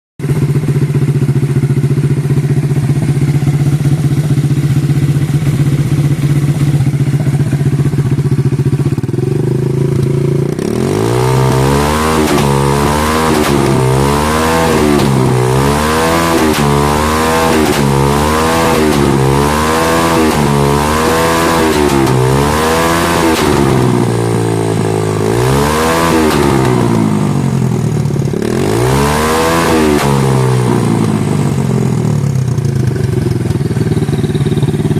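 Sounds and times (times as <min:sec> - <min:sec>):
motorcycle engine idling: 0:00.2 - 0:28.8, 0:30.2 - 0:34.9
motorcycle engine revving: 0:00.2 - 0:34.9.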